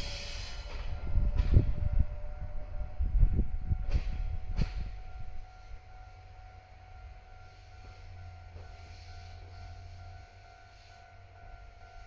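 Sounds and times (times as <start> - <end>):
railcars rumbling: 0.0 - 12.0.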